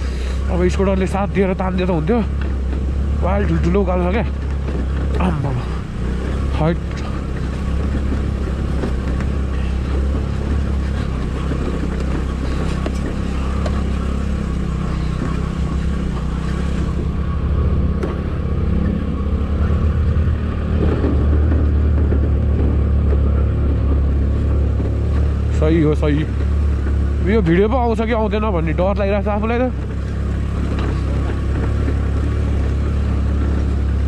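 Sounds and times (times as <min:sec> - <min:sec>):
scooter engine under load: 0:00.0 - 0:34.0.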